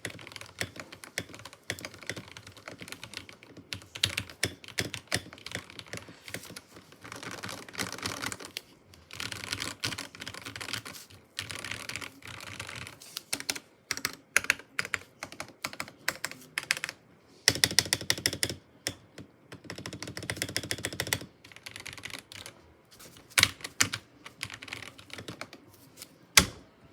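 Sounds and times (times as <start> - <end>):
mechanical keyboard typing: 0.0 - 25.7.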